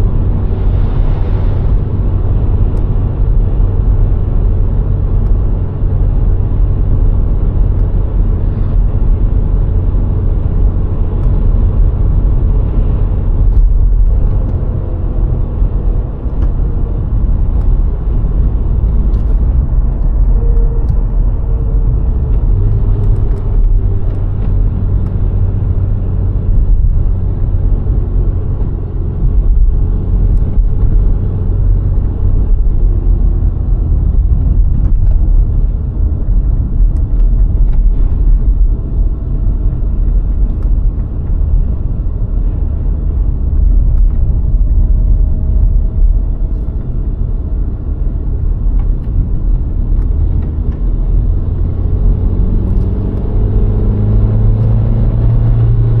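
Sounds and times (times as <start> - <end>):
faint car engine: 0.0 - 56.0
tyre and wind rumble: 0.0 - 56.0.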